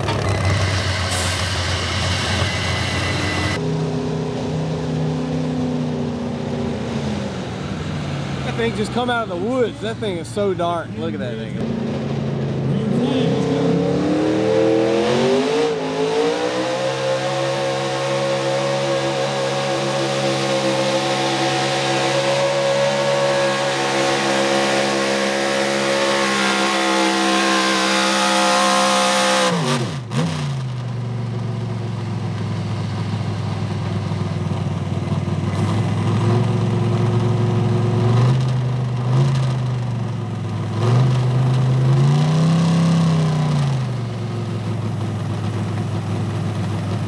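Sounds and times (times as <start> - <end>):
pickup engine at full throttle: 0.0 - 47.0.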